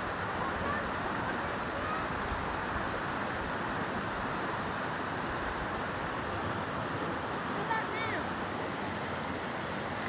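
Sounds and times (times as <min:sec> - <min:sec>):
river flowing over stones: 0:00.0 - 0:10.0.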